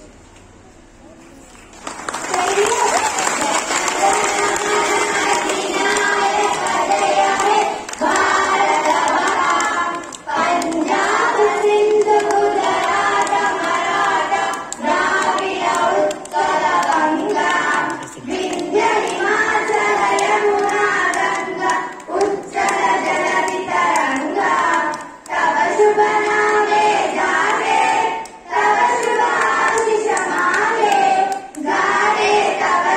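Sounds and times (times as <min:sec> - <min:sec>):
girls singing together: 0:02.4 - 0:32.9.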